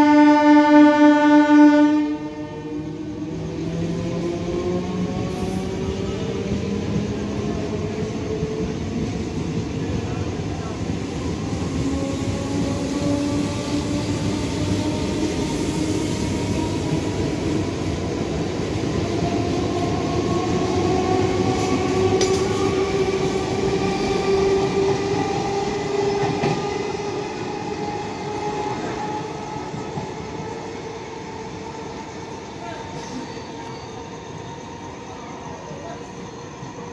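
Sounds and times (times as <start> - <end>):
train wheels rumbling on rail: 1.5 - 36.9.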